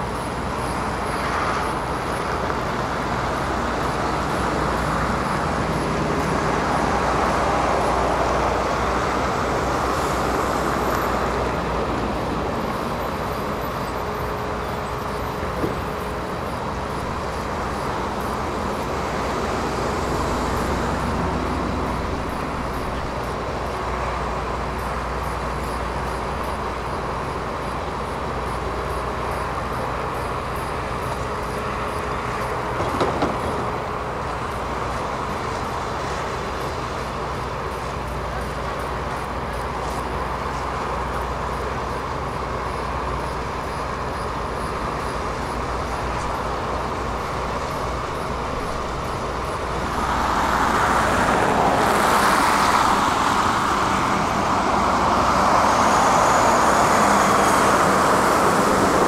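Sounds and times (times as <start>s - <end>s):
diesel construction machinery running: 0.0s - 59.0s.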